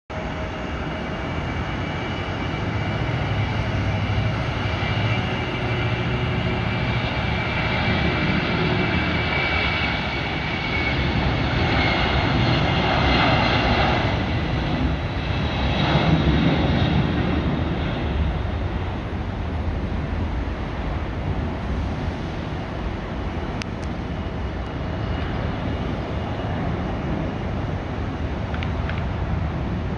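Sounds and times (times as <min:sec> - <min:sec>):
jet engines roaring at takeoff: 0:00.1 - 0:29.9.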